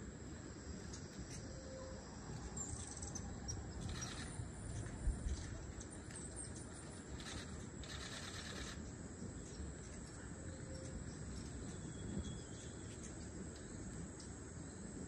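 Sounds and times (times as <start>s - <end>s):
birds or insects chirping: 0.0s - 15.0s.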